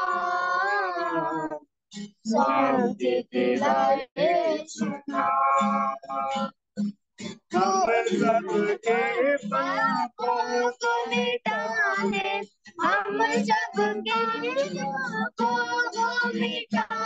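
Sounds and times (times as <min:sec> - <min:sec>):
child singing: 0:00.0 - 0:01.6, 0:02.2 - 0:06.5, 0:07.3 - 0:17.0.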